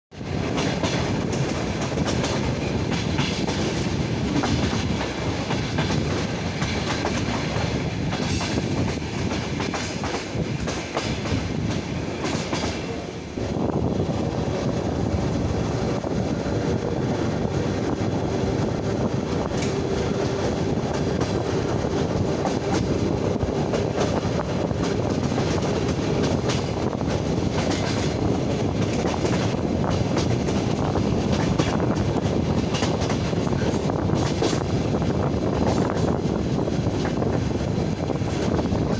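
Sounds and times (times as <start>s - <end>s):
train wheels clickety-clack: 0.1s - 38.9s
rushing air: 0.2s - 38.9s.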